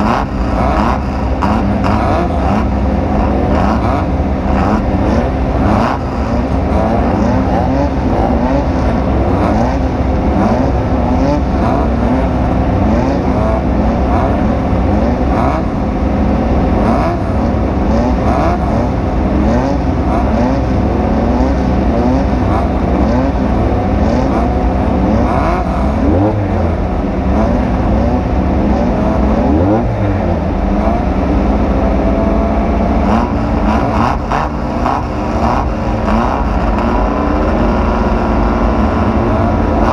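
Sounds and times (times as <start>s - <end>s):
engine revving hard: 0.0s - 39.9s.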